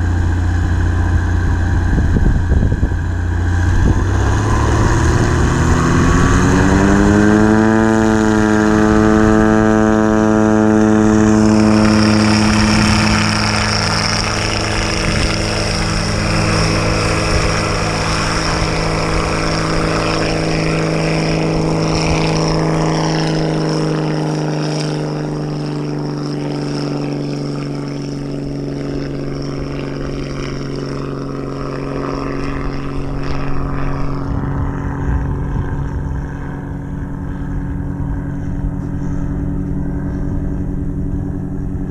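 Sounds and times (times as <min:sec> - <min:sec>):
propeller plane taking off: 0:00.0 - 0:41.9.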